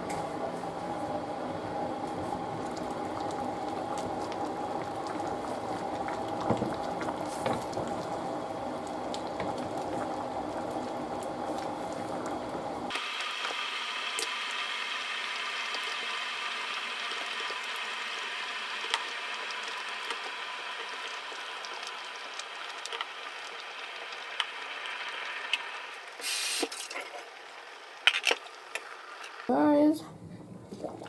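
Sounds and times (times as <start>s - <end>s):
stew bubbling on stove: 1.0s - 29.5s, 30.6s - 31.0s.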